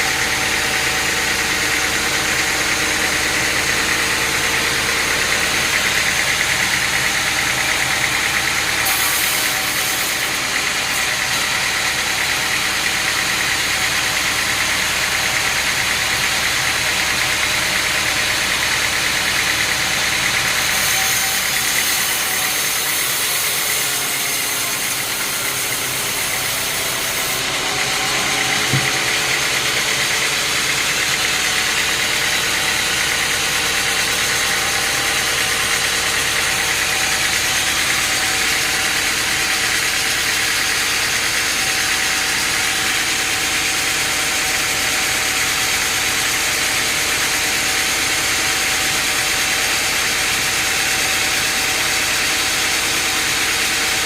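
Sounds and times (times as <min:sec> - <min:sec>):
sawmill machinery engine running: 0:00.0 - 0:54.0.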